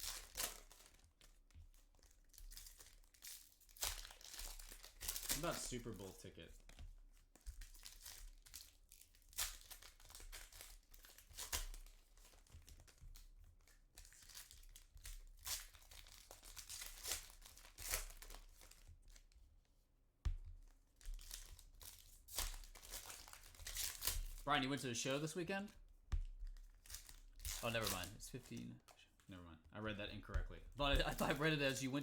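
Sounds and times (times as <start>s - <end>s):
foil wrappers crinkling and tearing: 0.0s - 19.3s, 21.0s - 29.1s, 30.7s - 32.0s.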